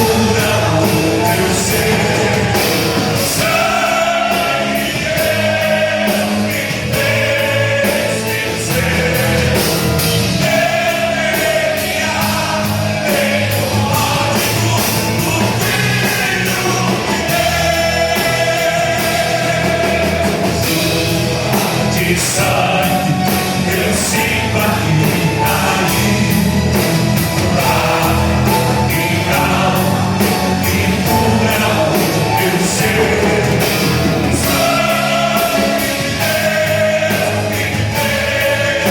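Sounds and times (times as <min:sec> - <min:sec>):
gospel rock band with singing: 0:00.0 - 0:38.9.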